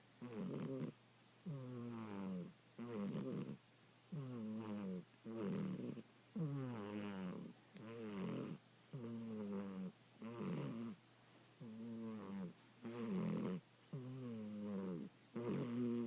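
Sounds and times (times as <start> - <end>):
cat snoring: 0.2 - 11.0, 11.6 - 16.0.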